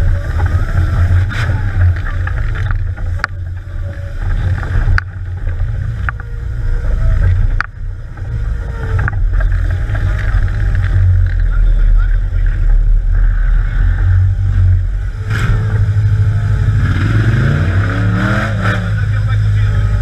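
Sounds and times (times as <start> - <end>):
engine rumbling under load: 0.0 - 20.0.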